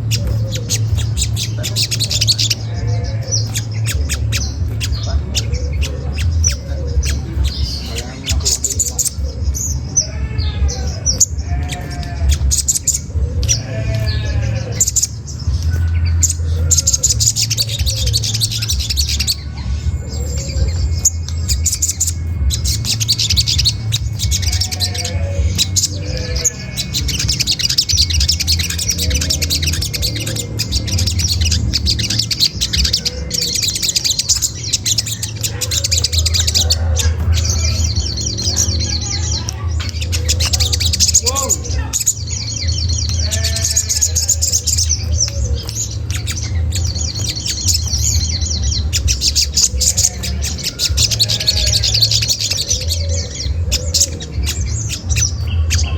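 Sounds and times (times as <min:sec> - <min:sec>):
bird chattering: 0:00.0 - 0:55.9
steady low hum: 0:00.0 - 0:55.9.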